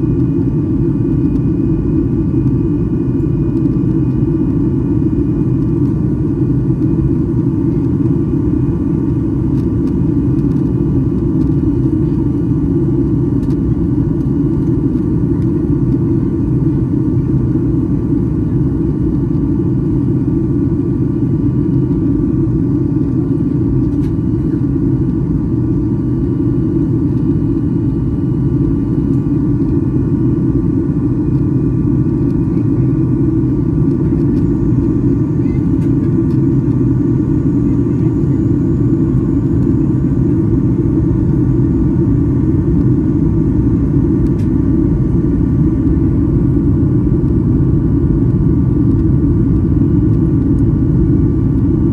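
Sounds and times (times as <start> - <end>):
airliner cabin engine drone: 0.0 - 51.9.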